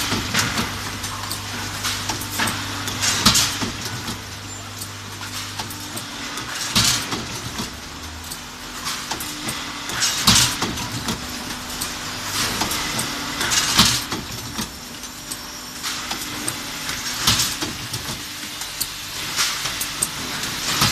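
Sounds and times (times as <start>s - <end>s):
can machine hissing and clattering: 0.0s - 20.9s
machine hum: 0.0s - 20.9s.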